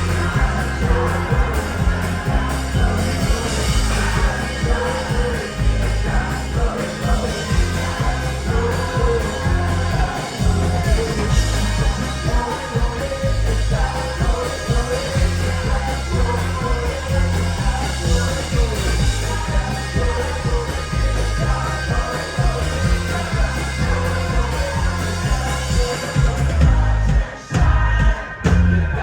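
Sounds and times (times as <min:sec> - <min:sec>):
heavy bass and drum beat: 0:00.0 - 0:29.0
lead vocal singing: 0:00.0 - 0:29.0
live rock band playing: 0:00.0 - 0:29.0.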